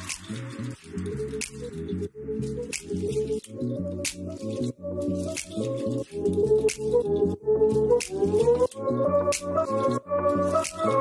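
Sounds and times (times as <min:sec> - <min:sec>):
background music with chords: 0:00.0 - 0:11.0.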